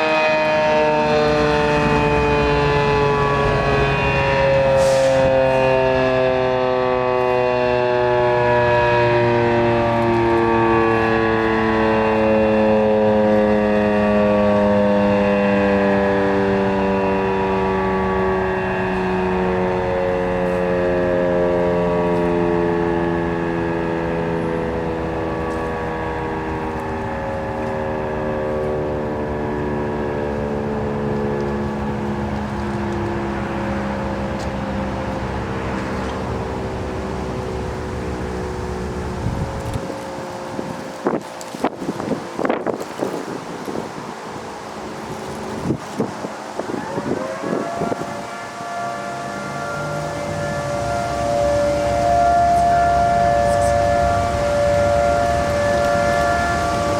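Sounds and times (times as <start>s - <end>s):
mechanical warning siren: 0.0s - 56.9s.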